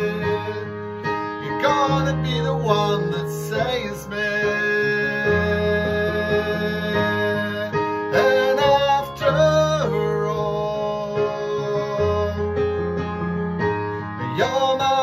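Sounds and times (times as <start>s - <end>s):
man singing pop song: 0.0s - 12.8s, 14.1s - 15.0s.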